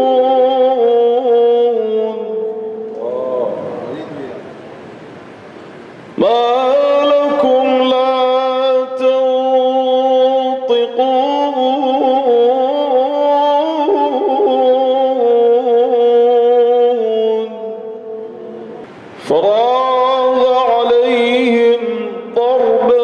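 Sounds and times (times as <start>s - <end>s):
man reciting melodically: 0.0s - 4.6s, 6.1s - 23.0s.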